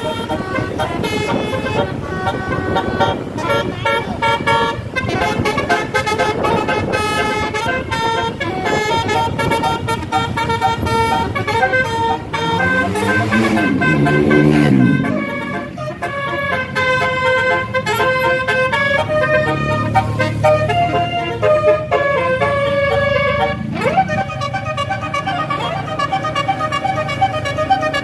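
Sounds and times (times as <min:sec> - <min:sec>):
multi-tone air horn melody: 0:00.0 - 0:28.0.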